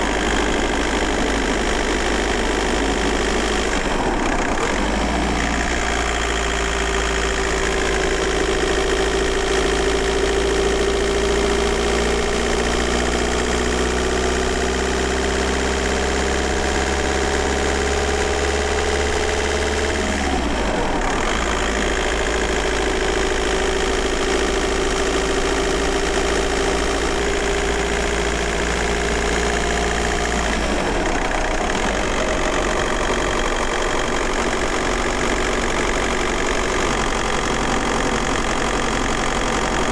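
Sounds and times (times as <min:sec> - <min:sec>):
diesel engine pulling car: 0:00.0 - 0:39.9.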